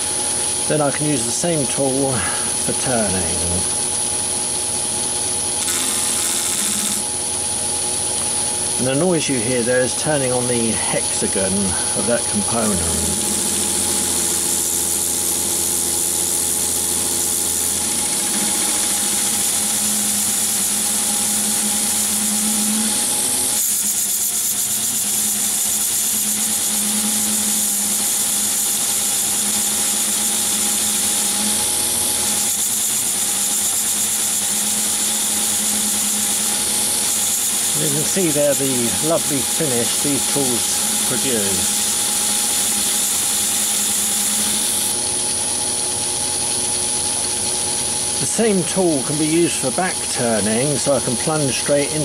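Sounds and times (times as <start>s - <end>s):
interrupted metal cutting noise: 0.0s - 52.0s
lathe running: 0.0s - 52.0s.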